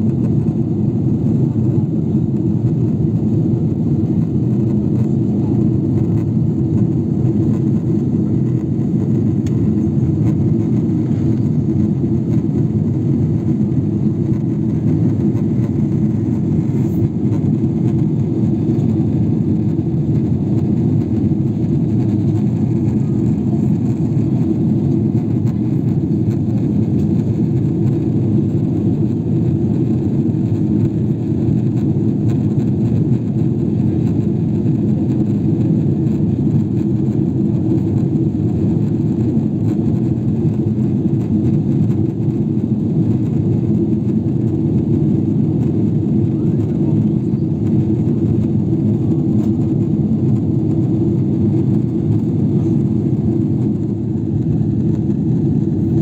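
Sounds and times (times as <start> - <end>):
jet engine hum: 0.0 - 56.0.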